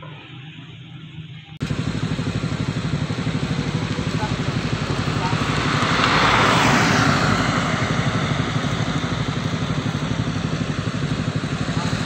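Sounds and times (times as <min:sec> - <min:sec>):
road and wind noise: 0:01.4 - 0:12.0
vehicle engine running: 0:01.6 - 0:12.0.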